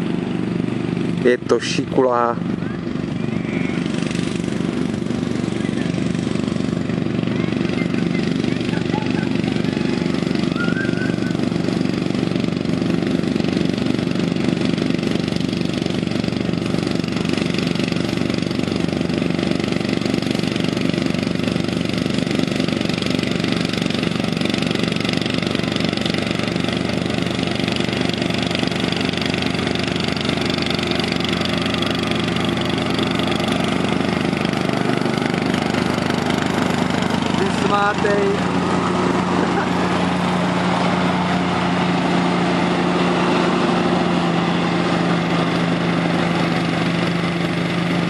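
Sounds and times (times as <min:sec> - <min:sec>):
lawn tractor engine mowing: 0:00.0 - 0:48.0.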